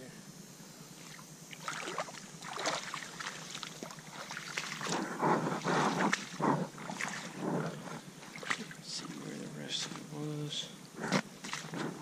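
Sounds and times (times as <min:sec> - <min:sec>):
footsteps sloshing through water: 0:01.0 - 0:10.1, 0:11.1 - 0:12.0.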